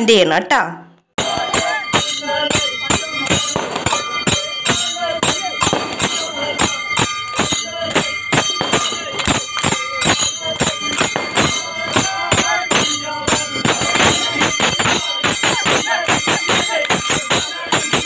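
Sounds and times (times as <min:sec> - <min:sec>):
fast drum beats: 0:01.2 - 0:18.0
ringing cymbals: 0:01.2 - 0:18.0.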